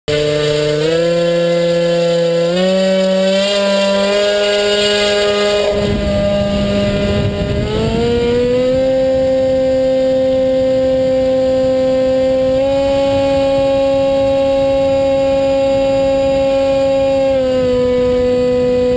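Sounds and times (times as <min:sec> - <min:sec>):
model plane electric motor whining: 0:00.1 - 0:18.9.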